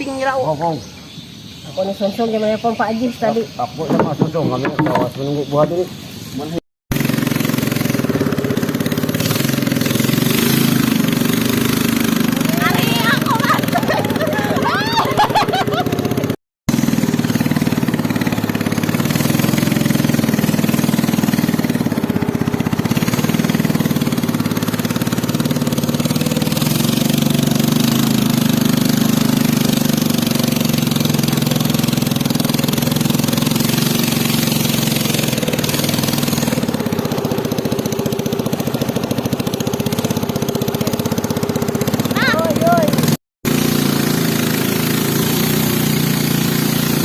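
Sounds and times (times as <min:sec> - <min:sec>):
small engine running steadily: 0:00.0 - 0:47.0.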